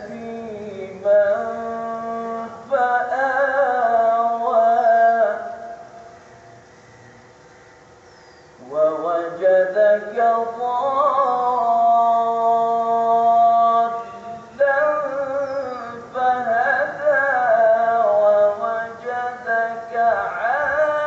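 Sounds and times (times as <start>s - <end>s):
man reciting melodically: 0.0s - 6.2s, 8.6s - 21.0s.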